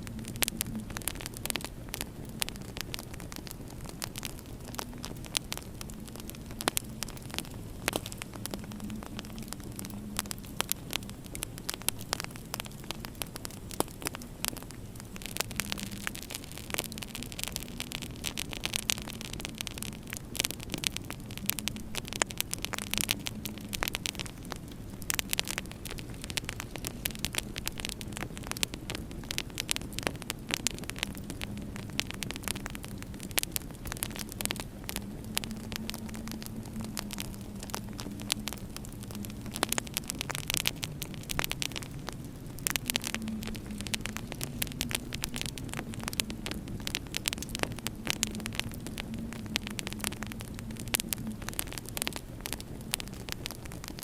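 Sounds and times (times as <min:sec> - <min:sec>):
steady low hum: 0:00.0 - 0:53.8
wood fire crackling: 0:00.0 - 0:54.0.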